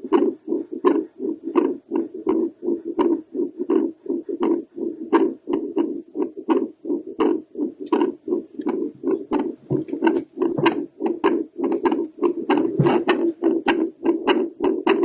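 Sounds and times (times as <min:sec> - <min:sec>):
heartbeat on doppler probe: 0:00.0 - 0:15.0.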